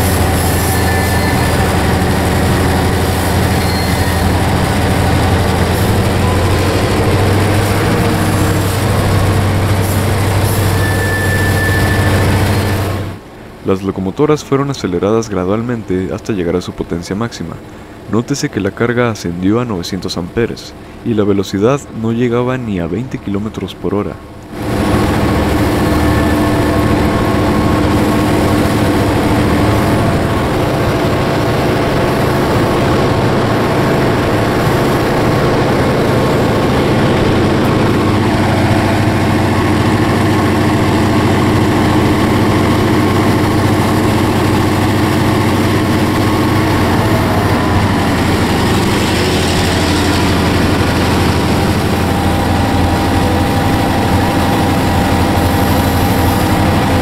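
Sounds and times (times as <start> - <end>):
locomotive diesel engine drone: 0.0 - 57.0.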